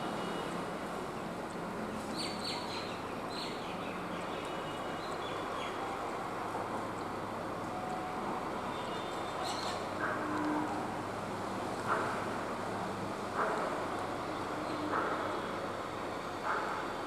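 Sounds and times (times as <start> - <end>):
steady outdoor noise: 0.0 - 17.0.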